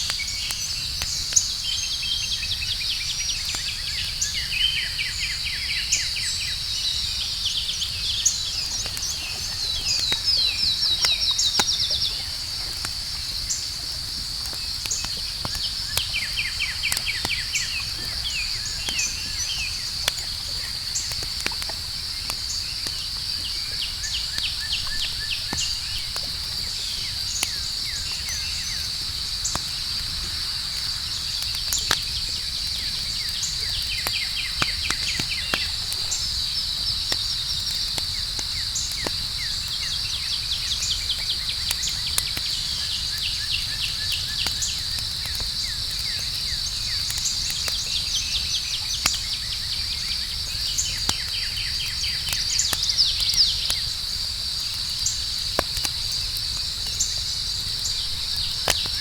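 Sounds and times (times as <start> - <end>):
campfire crackling and popping: 0.0 - 59.0
crickets trilling: 0.0 - 59.0.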